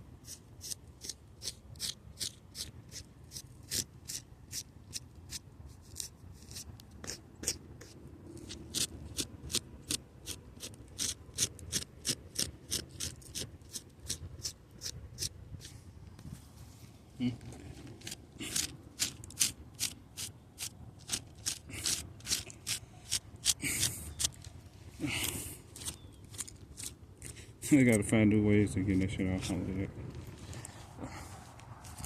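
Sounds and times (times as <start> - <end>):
hand scratching fabric: 0.2 - 27.4.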